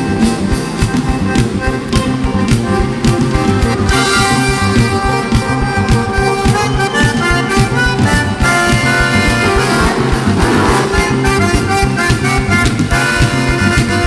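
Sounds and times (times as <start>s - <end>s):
button accordion: 0.0s - 14.0s
rock band playing: 0.0s - 14.0s.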